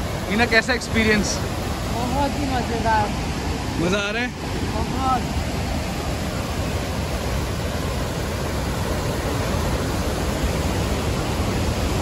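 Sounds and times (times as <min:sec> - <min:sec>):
floodwater rushing through rapids: 0:00.0 - 0:12.0.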